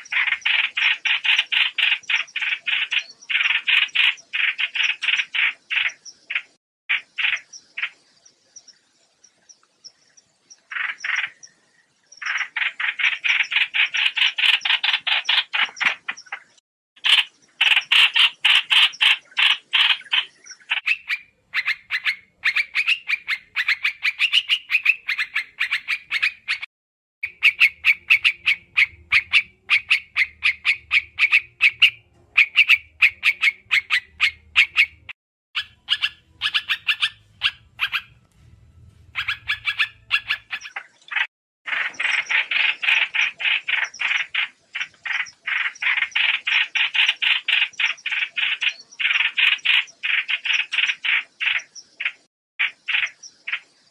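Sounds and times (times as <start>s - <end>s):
bird chattering calls: 0.0s - 8.0s, 10.6s - 11.6s, 12.2s - 38.2s, 39.1s - 53.7s.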